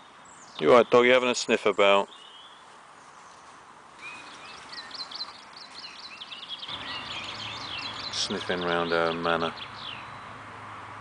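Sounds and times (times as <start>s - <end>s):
small birds chirping: 0.0s - 10.5s
faint outdoor hiss: 0.0s - 11.0s.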